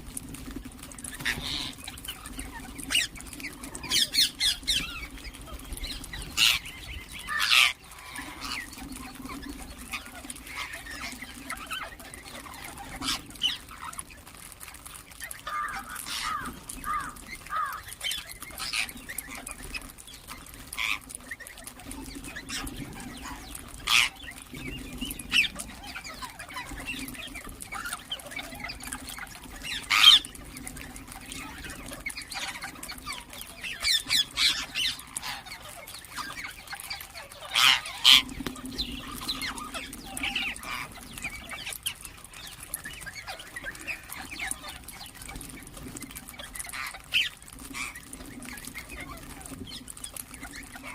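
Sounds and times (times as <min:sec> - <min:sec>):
parrots squawking: 0:01.1 - 0:24.4, 0:25.3 - 0:45.6, 0:46.2 - 0:50.9.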